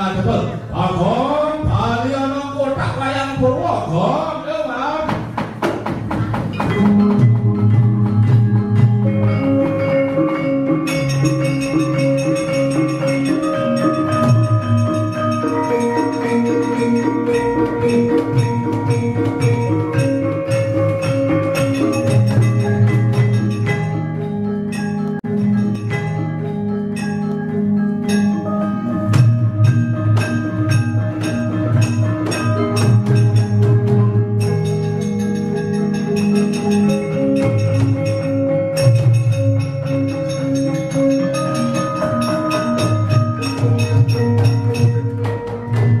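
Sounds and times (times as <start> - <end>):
gamelan ensemble playing: 0.0 - 4.8, 5.5 - 46.0.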